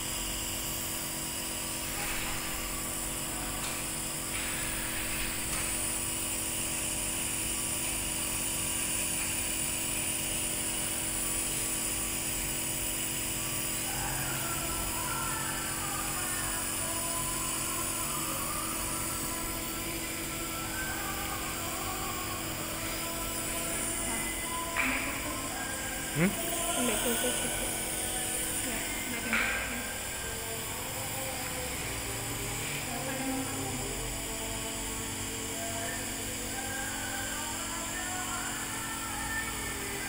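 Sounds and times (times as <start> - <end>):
nebulizer motor hum and hiss: 0.0 - 40.0.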